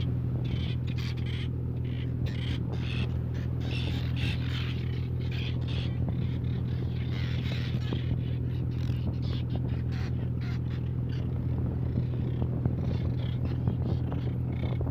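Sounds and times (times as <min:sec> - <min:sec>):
boat engine droning: 0:00.0 - 0:14.9
seabirds calling harshly: 0:00.0 - 0:14.9.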